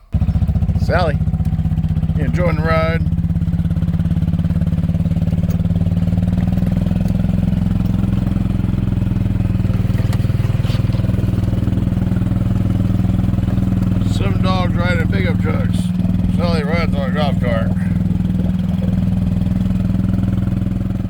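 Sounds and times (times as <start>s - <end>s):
golf cart engine running: 0.0s - 21.0s.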